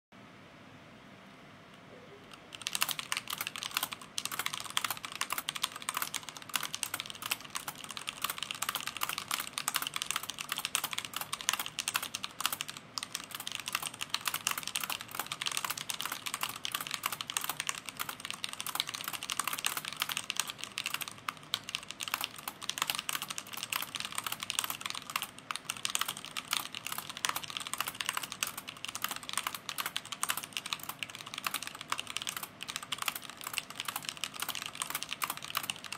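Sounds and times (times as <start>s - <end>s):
fast typing on mechanical keyboard: 2.3s - 35.9s.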